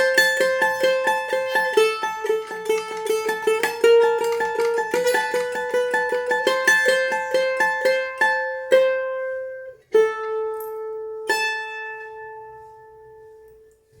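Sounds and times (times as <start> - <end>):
mandolin notes: 0.0 - 14.0.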